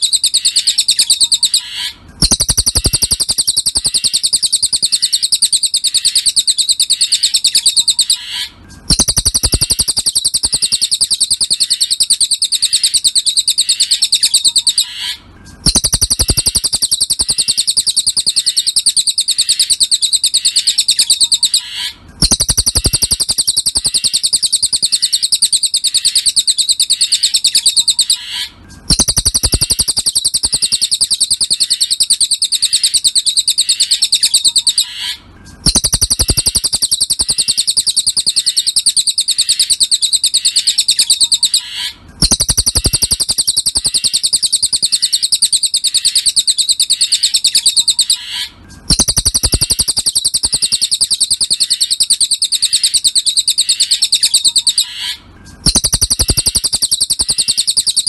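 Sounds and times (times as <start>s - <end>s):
bird trilling high chirps: 0.0s - 58.0s.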